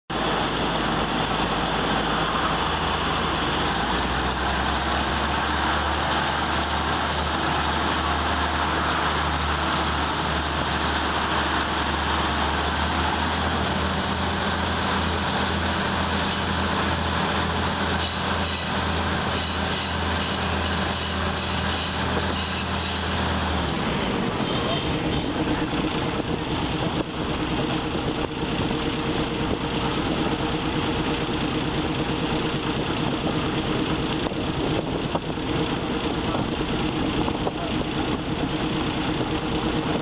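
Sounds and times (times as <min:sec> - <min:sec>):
passing train: 0:00.1 - 0:40.0
train wheels rumbling on rails: 0:00.1 - 0:40.0
wind: 0:00.1 - 0:40.0.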